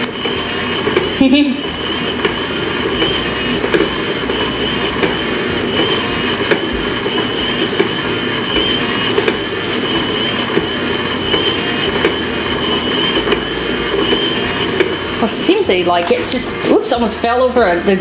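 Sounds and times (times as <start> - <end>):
motorized toy whirring and rattling: 0.0 - 18.0
high electronic chirps: 0.2 - 17.4.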